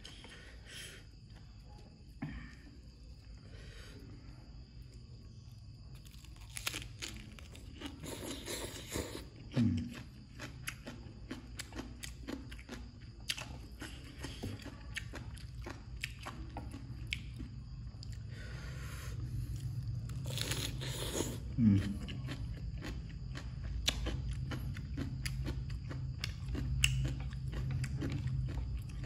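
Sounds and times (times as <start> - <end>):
crunching and chewing food: 0.0 - 29.0.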